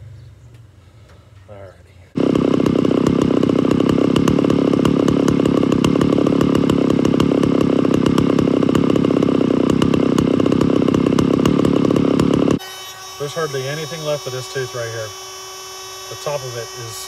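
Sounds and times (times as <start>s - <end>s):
chain sharpener motor buzzing: 2.2s - 17.0s.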